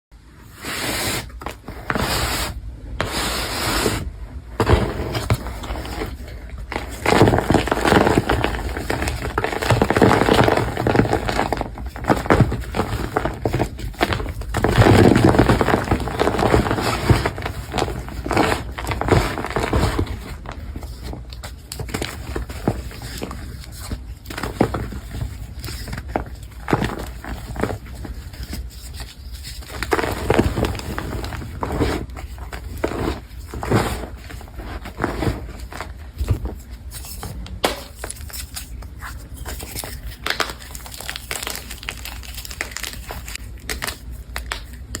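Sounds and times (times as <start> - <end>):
crumbly material crunching: 4.5 - 45.0.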